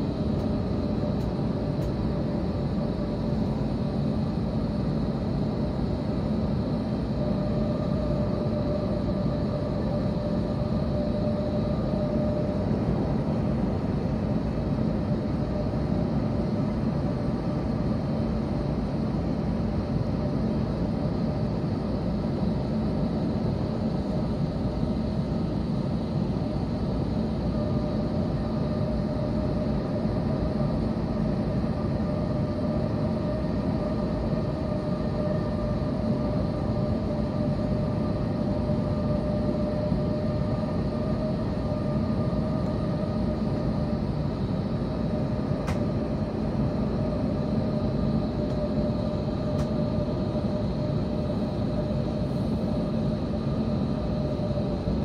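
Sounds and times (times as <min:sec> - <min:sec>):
airplane cabin rumble: 0:00.0 - 0:55.0
constant whine: 0:00.0 - 0:55.0.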